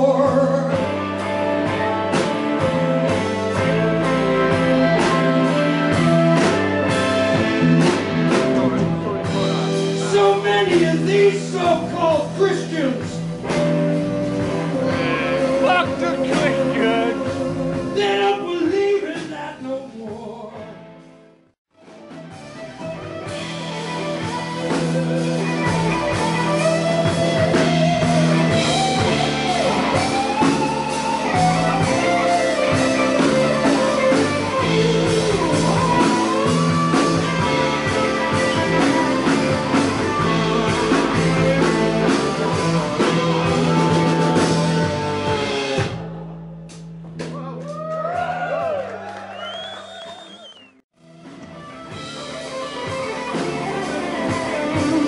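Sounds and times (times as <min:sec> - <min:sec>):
electric guitar lead with bent notes: 0:00.0 - 0:18.8, 0:21.8 - 0:47.3, 0:51.0 - 0:55.0
blues-rock band playing: 0:00.0 - 0:49.2, 0:51.0 - 0:55.0.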